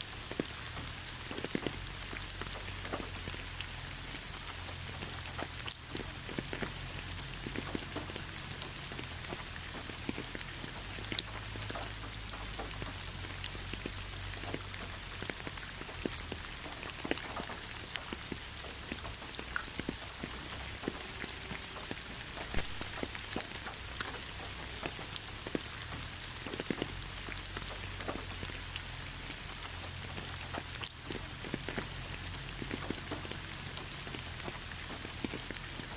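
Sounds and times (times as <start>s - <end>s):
raindrops pattering on hard surface: 0.0s - 35.9s.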